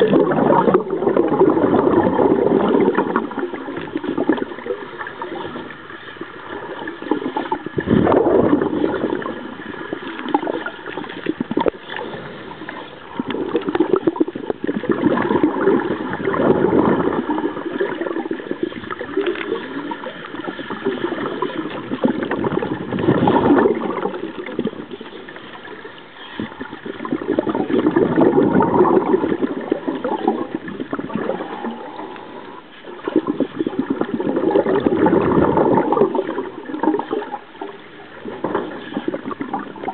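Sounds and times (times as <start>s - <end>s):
steady water noise: 0.0s - 39.9s
underwater bubbling of exhaled air: 0.0s - 39.9s.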